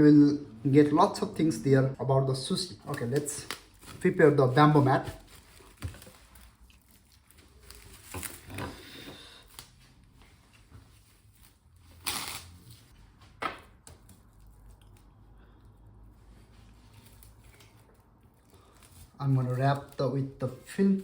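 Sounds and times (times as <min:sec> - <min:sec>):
cling film rustling and crinkling: 0:02.4 - 0:15.1, 0:16.4 - 0:21.0.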